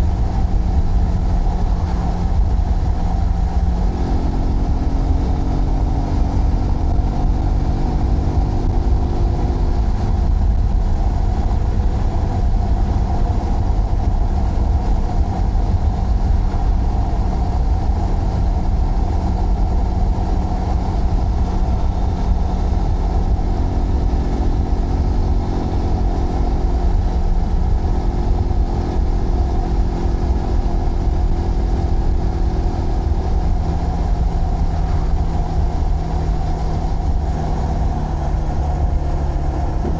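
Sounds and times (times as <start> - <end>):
motorcycle engine running: 0.0 - 39.9
wind and road rumble: 0.0 - 39.9.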